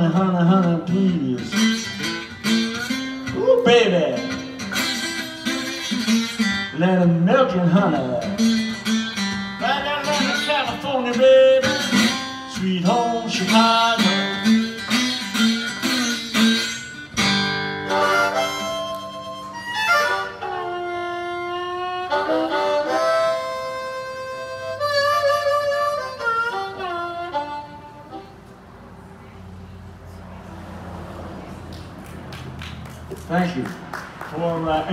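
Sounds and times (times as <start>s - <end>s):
strummed guitar: 0.0s - 28.6s
blues harmonica: 0.0s - 28.7s.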